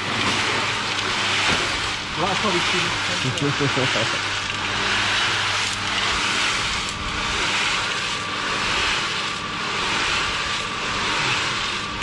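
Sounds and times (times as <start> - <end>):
cement mixer motor hum: 0.0 - 12.0
mortar swishing in drum: 0.0 - 12.0.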